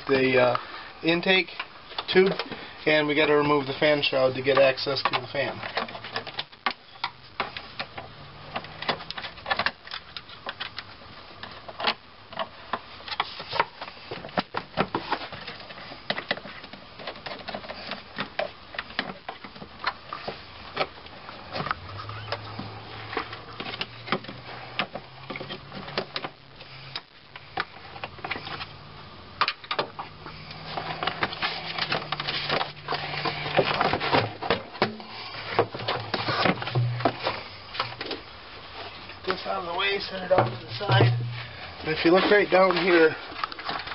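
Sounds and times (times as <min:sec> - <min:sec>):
faint low hum: 0:00.0 - 0:43.9.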